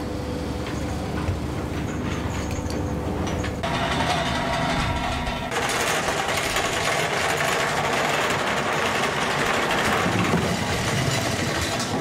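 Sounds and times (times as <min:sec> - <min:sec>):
machinery noise: 0:00.0 - 0:12.0.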